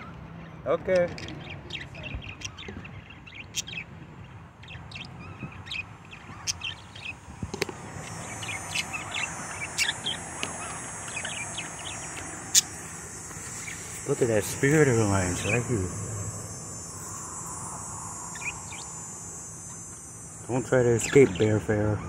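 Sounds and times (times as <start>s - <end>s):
budgerigars chirping: 0.0s - 22.0s
steady high buzz: 0.0s - 22.0s.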